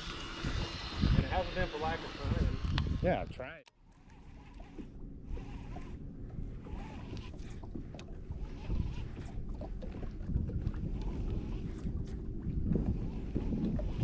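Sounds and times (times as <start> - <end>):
wind buffeting microphone: 0.3 - 3.6, 4.4 - 14.0.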